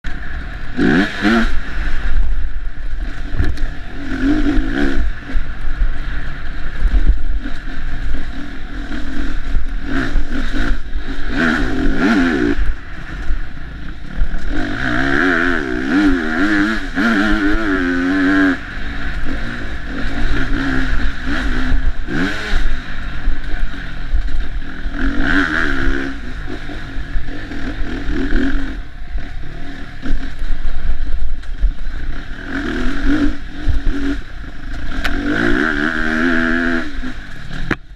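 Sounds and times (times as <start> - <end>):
dirt bike engine revving: 0.1 - 37.9.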